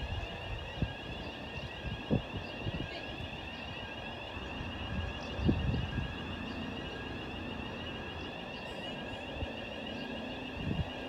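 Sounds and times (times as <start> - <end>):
locomotive engine hum: 0.0 - 11.0.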